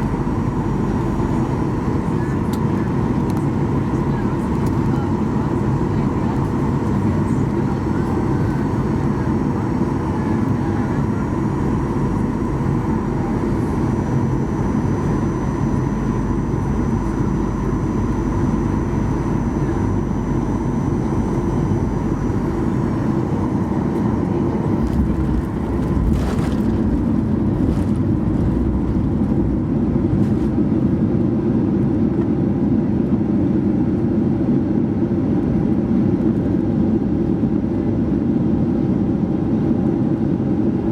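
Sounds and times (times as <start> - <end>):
airplane cabin engine rush: 0.0 - 40.9.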